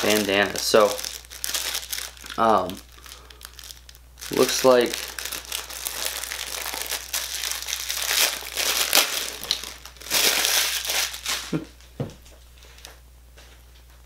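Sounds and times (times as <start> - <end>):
plastic packaging crinkling: 0.0 - 11.7.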